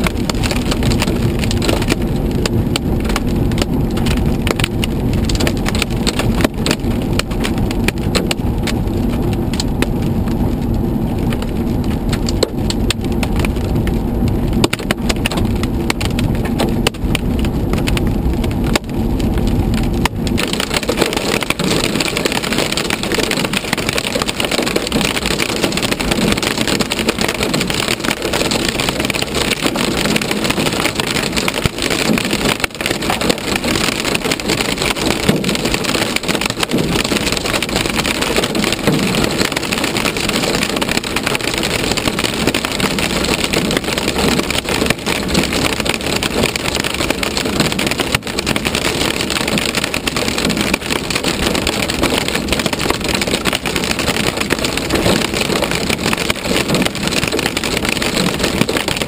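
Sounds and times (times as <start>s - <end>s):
rain and hail on vehicle: 0.0s - 59.0s
vehicle driving rumble: 0.0s - 59.0s.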